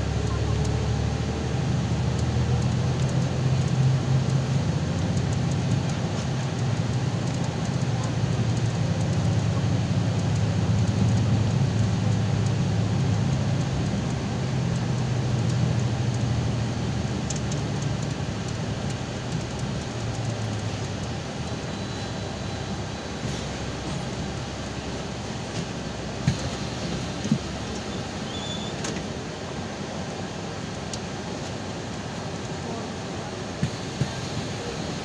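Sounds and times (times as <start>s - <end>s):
bus engine drone: 0.0s - 35.0s
road and tyre noise: 0.0s - 35.0s.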